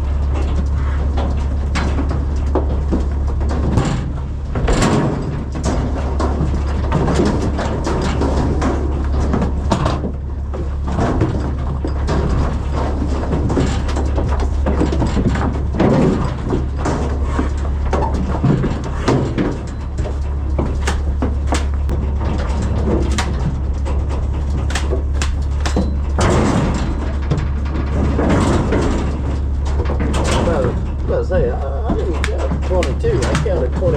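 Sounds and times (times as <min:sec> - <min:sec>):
hooves clattering on metal trailer: 0:00.0 - 0:33.9
steady low hum: 0:00.0 - 0:33.9.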